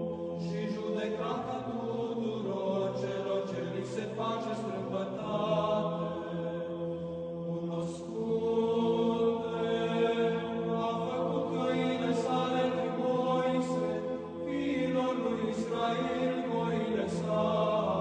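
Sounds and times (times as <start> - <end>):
choir singing church chant: 0.0 - 18.0.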